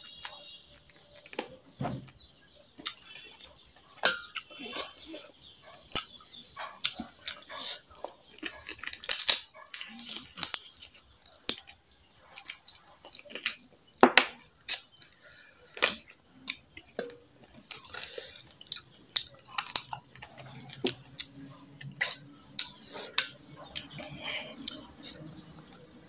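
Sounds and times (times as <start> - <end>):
person chewing wetly: 0.0 - 26.0.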